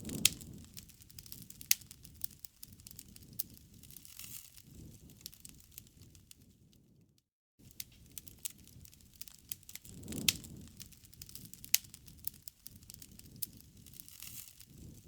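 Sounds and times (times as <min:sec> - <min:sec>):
campfire crackling: 0:00.0 - 0:06.9, 0:07.6 - 0:15.0.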